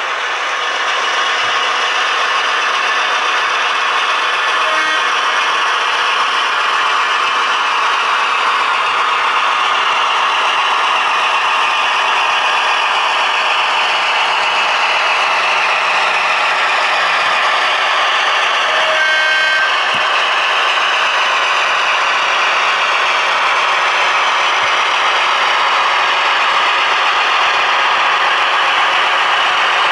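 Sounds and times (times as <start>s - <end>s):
model train whirring and clattering: 0.0s - 29.9s.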